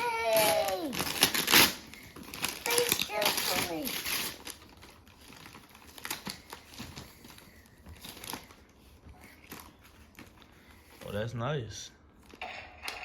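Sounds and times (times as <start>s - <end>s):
packaging clicks and rustles: 0.0s - 10.5s.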